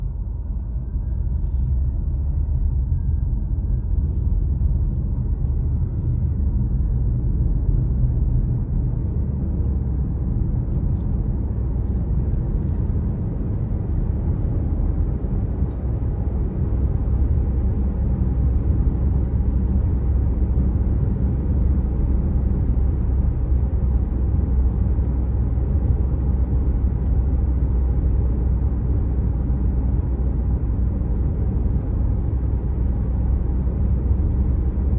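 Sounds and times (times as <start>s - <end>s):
car driving on road: 0.0s - 34.9s.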